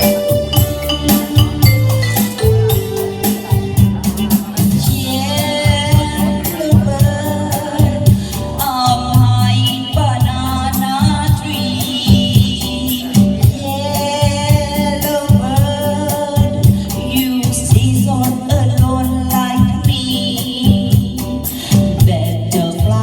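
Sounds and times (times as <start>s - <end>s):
percussion beat and bass: 0.0s - 23.0s
person singing: 0.0s - 23.0s.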